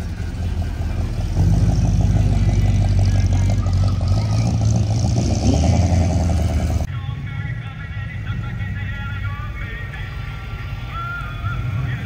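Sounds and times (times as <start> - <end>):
car engine and exhaust rumbling: 0.0 - 12.0.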